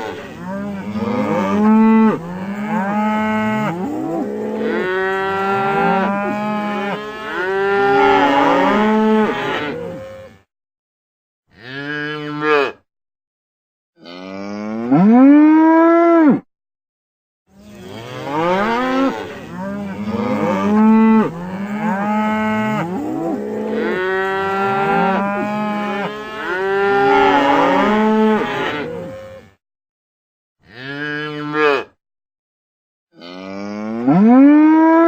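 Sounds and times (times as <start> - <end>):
cows mooing: 0.0 - 10.5, 11.5 - 12.8, 14.0 - 16.4, 17.6 - 29.6, 30.6 - 32.0, 33.2 - 35.0.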